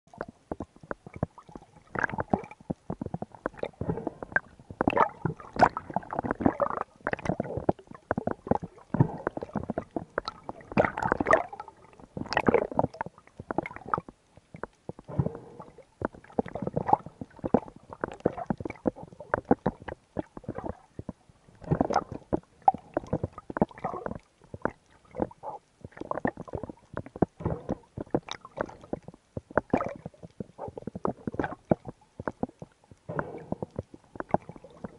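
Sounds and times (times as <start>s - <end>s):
underwater gurgling: 0.1s - 34.9s
water clicks and knocks: 0.1s - 34.9s.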